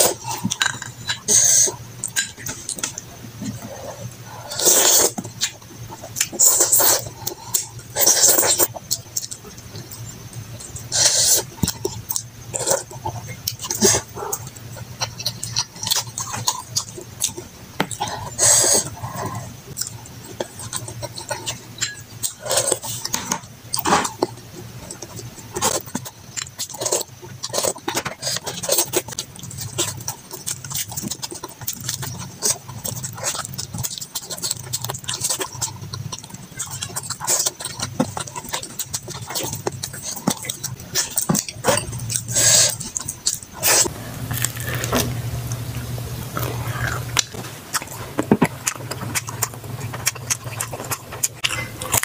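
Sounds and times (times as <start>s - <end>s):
wet chewing and lip smacking: 8.5s - 52.0s.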